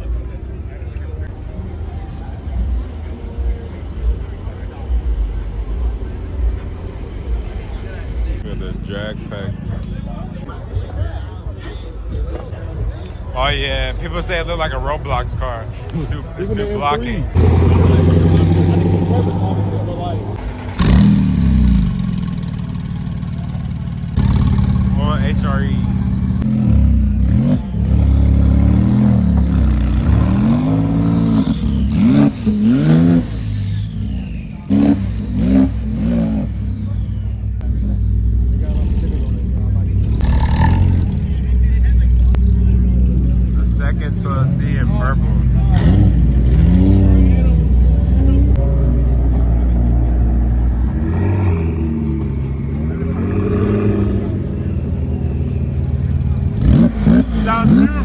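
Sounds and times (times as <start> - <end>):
car engine revving: 0.0 - 10.6, 12.3 - 58.0
low exhaust rumble: 0.0 - 58.0.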